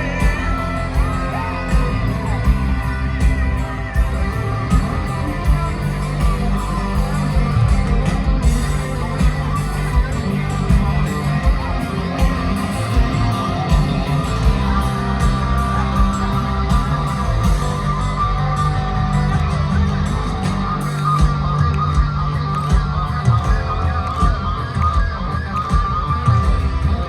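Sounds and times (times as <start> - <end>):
electric guitar: 0.0 - 27.0
steady drum beat: 0.0 - 27.0.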